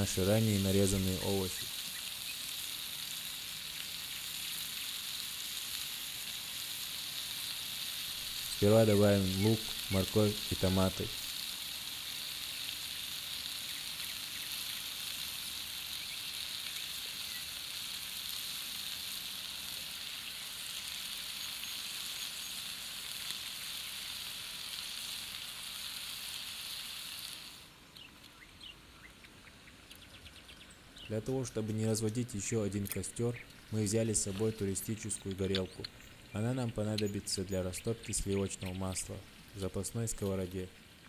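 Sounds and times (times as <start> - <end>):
food sizzling in a frying pan: 0.0 - 27.8, 30.9 - 41.0.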